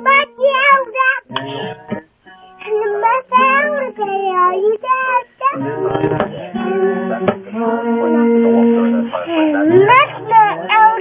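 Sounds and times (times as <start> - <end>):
child singing: 0.0 - 1.3, 2.6 - 11.0.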